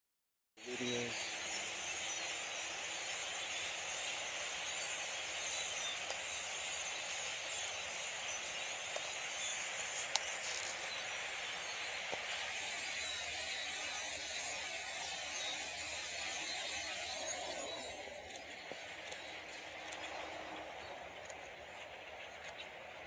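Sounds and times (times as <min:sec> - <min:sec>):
large flock of birds calling: 0:00.6 - 0:23.0.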